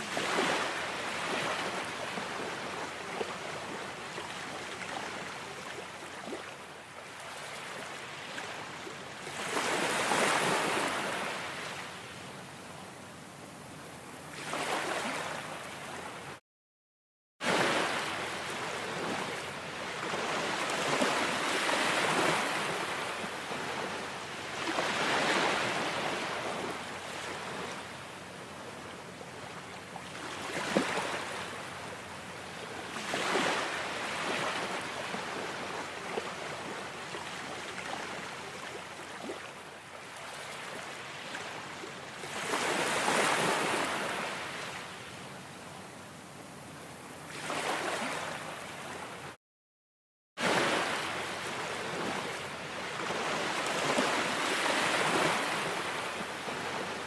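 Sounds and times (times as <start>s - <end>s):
ocean waves breaking on shore: 0.0s - 12.5s, 13.5s - 16.4s, 17.4s - 45.2s, 46.8s - 49.4s, 50.4s - 57.0s.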